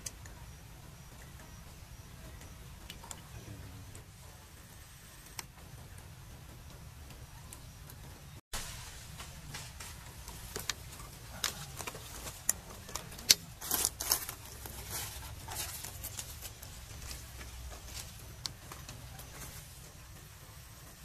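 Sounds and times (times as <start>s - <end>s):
crackles: 0.0s - 21.0s
low steady rumble: 0.0s - 21.0s.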